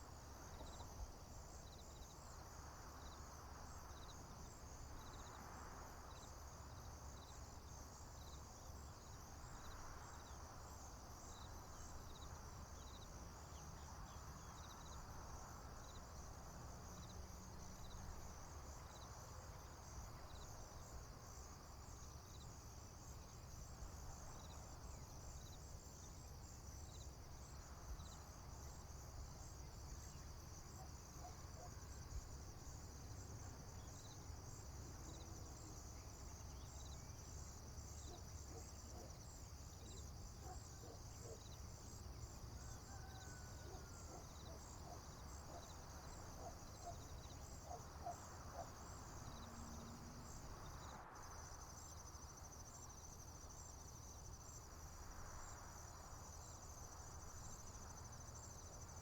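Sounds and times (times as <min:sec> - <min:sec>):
insect chirp: 0:00.0 - 0:59.0
insects trilling: 0:08.2 - 0:59.0.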